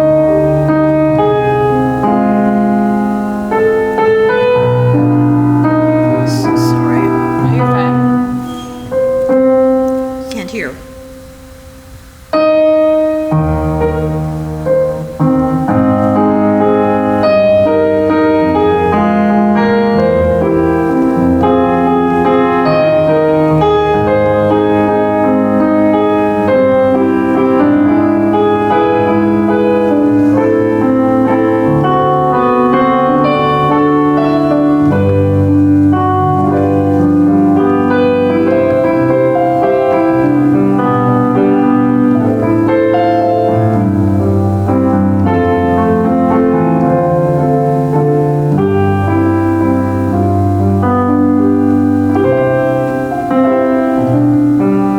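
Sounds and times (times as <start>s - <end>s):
solo piano playing chords: 0.0s - 54.9s.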